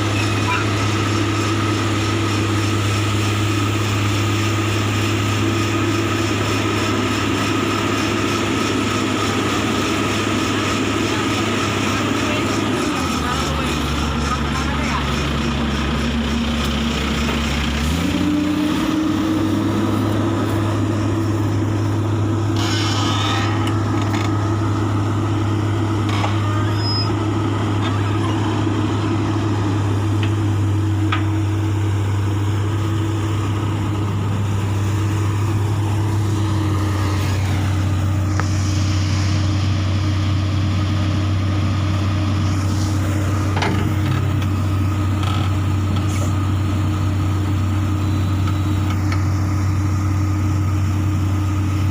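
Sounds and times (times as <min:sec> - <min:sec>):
excavator diesel engine revving: 0:00.0 - 0:51.9.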